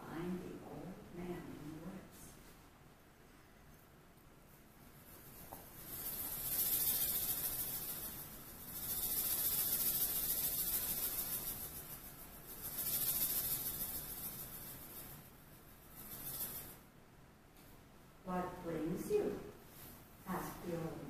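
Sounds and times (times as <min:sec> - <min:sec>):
soft high hiss: 0:00.0 - 0:21.0.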